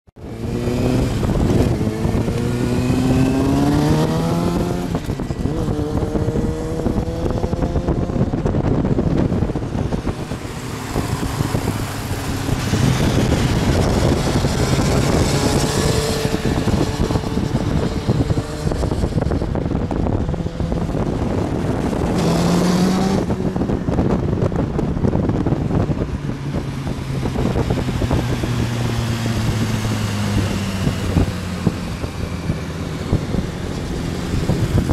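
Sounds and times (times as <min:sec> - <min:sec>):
road noise: 0:00.1 - 0:34.9
motorcycle engines revving past: 0:00.2 - 0:34.9.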